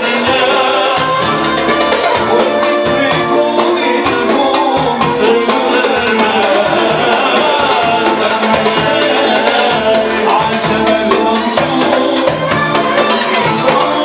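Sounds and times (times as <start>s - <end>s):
man singing into microphone: 0.0s - 14.0s
quick drum beat: 0.0s - 14.0s.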